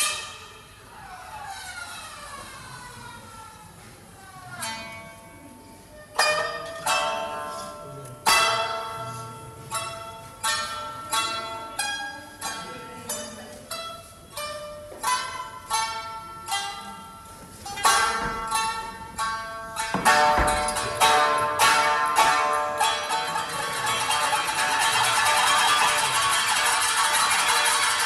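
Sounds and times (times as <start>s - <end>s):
shamisen notes ringing: 0.0s - 28.0s.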